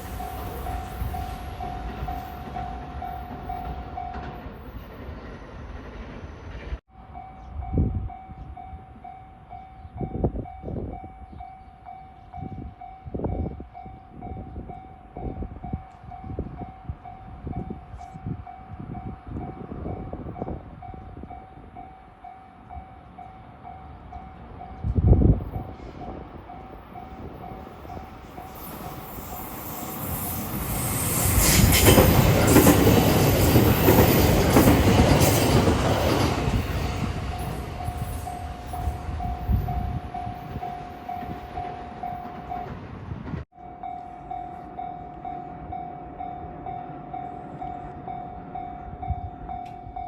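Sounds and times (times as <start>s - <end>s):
train rumbling past: 0.0s - 11.1s, 12.8s - 50.0s.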